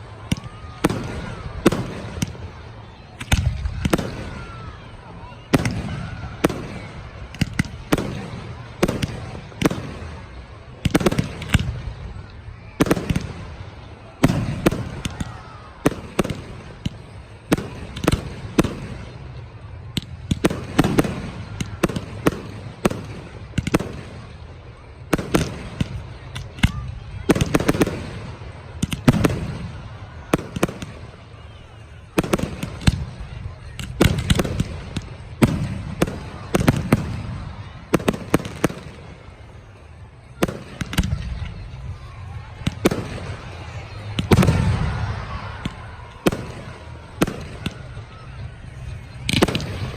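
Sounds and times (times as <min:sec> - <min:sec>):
fireworks bursting with bangs: 0:00.0 - 0:49.9.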